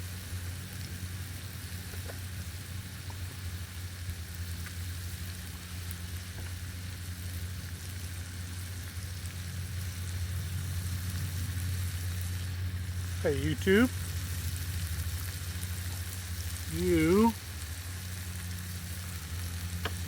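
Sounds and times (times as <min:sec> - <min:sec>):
food sizzling in a pan: 0:00.0 - 0:20.0
low engine hum: 0:00.0 - 0:20.0.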